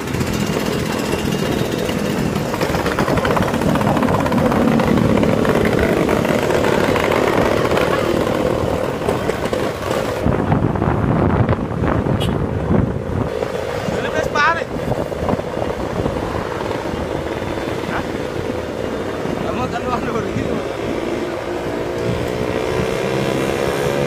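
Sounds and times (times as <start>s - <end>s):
road noise: 0.0s - 24.0s
scooter engines: 0.0s - 24.0s
wind noise: 0.0s - 24.0s.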